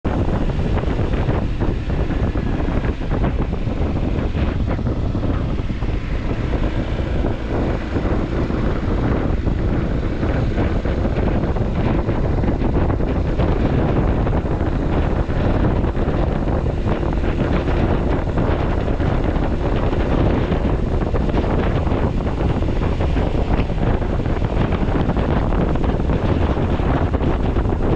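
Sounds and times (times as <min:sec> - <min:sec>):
wind buffeting microphone: 0:00.0 - 0:27.9
scooter engine running: 0:00.1 - 0:27.9.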